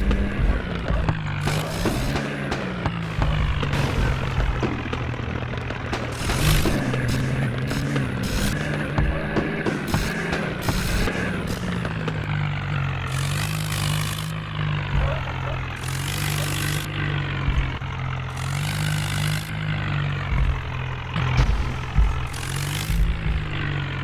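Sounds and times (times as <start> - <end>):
tractor engine humming: 0.0 - 24.0.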